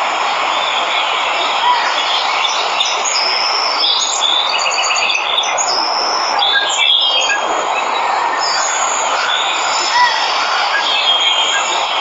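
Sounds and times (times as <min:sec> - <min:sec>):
waterfall rushing: 0:00.0 - 0:04.6, 0:05.2 - 0:12.0
birds chirping and trilling: 0:00.4 - 0:12.0.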